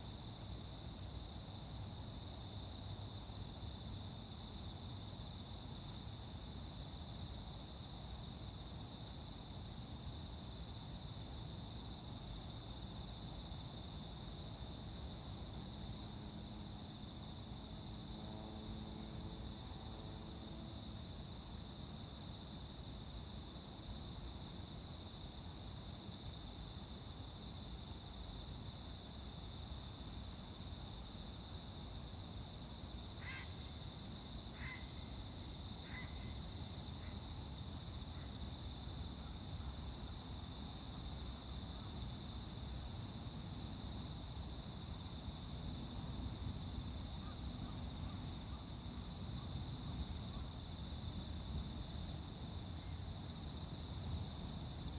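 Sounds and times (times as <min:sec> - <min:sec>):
insects chirring: 0:00.1 - 0:54.9.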